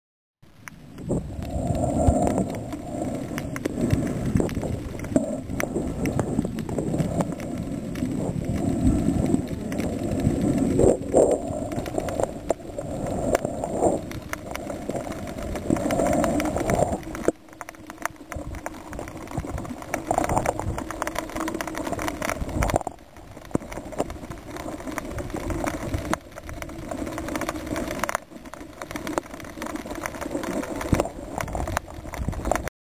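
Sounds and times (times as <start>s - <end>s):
crackling clicks and knocks: 0.4s - 32.7s
muffled underwater rumble: 0.4s - 32.7s.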